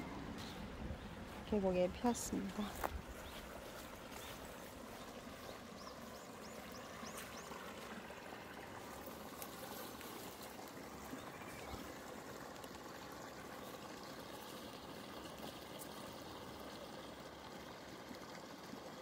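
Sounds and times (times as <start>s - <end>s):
stream trickling over stones: 0.0s - 19.0s.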